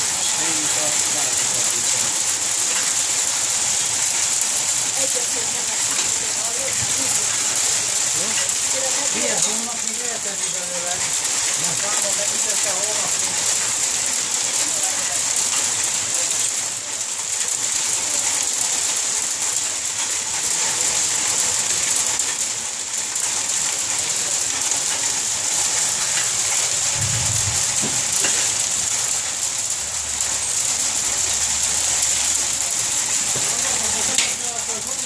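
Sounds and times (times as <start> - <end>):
heavy rain and hail: 0.0 - 35.0.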